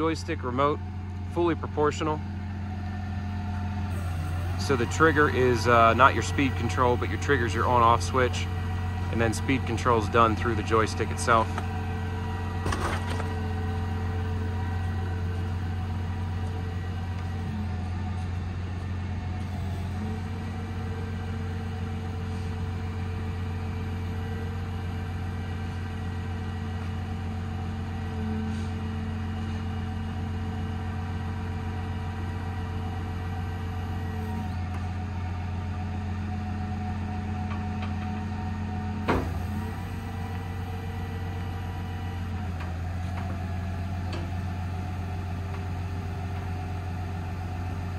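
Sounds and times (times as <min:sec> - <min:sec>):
diesel engine droning: 0:00.0 - 0:47.9.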